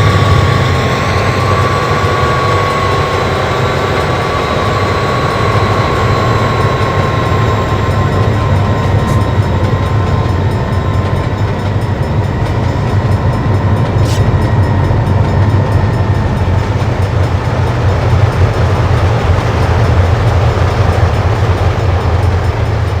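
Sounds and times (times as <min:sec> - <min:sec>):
diesel locomotives rumbling past: 0:00.0 - 0:23.0.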